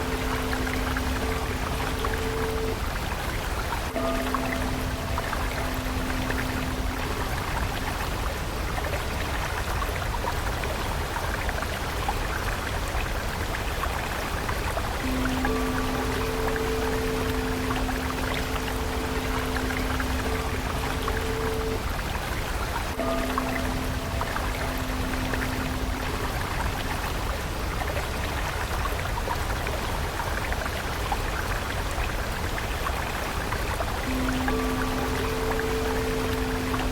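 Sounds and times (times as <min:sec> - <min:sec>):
soft held music tone: 0:00.0 - 0:11.0, 0:13.0 - 0:31.1, 0:32.0 - 0:36.9
stream water trickling: 0:00.0 - 0:36.9.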